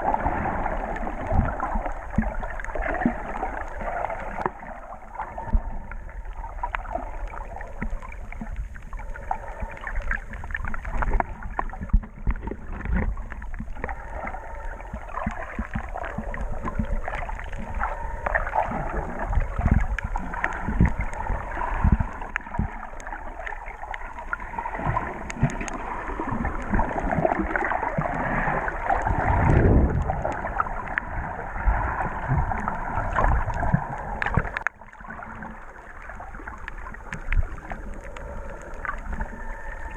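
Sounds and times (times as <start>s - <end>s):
water sloshing underwater: 0.0s - 39.9s.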